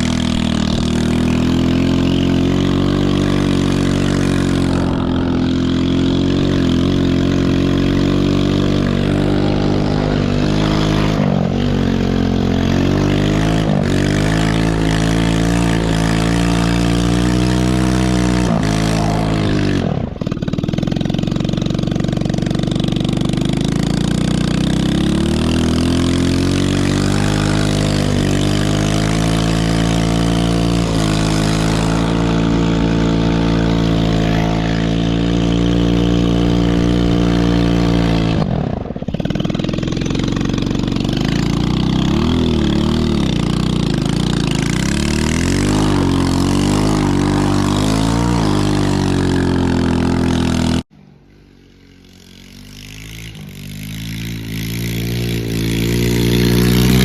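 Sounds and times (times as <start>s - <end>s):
small engine revving: 0.0s - 57.0s.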